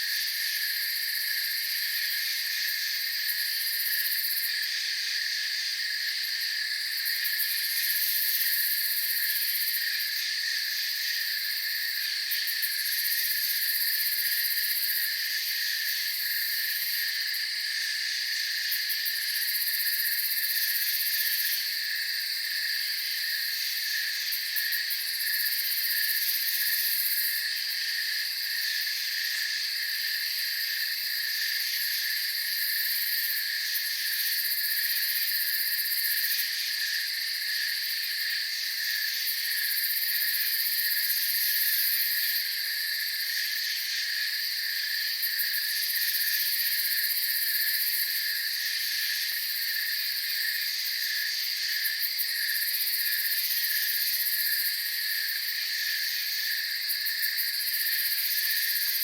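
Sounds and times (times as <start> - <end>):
crickets trilling: 0.0 - 59.0
faint high insect hiss: 0.0 - 59.0
pulsing cricket chirp: 0.0 - 59.0.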